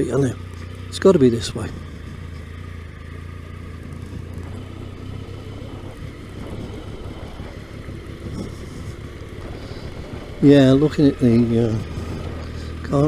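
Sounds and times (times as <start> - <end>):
motorcycle engine humming: 0.0 - 13.0
road noise: 0.0 - 13.0.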